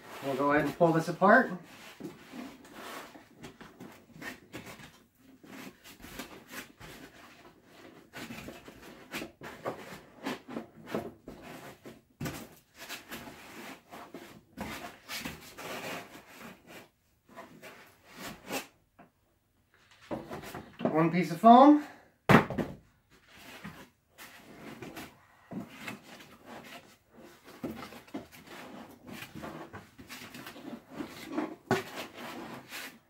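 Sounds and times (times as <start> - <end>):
foam rubbing and scraping: 0.0 - 12.0, 12.7 - 18.8, 23.2 - 33.0.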